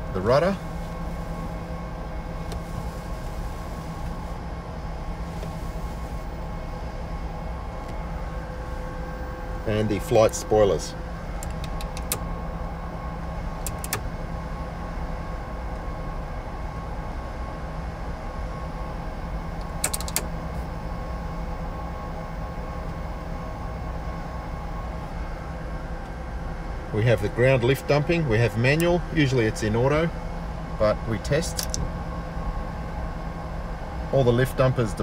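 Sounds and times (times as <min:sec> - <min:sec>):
constant whining tones: 0:00.0 - 0:35.0
jet engines idling hum: 0:00.0 - 0:35.0.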